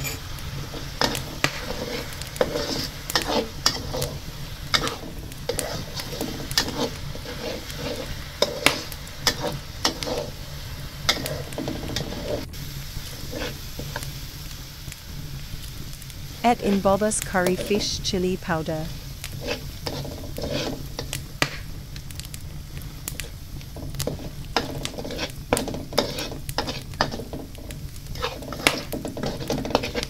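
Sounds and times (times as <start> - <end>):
paste sizzling in oil: 0.0 - 30.0
utensil scraping wok: 0.0 - 30.0.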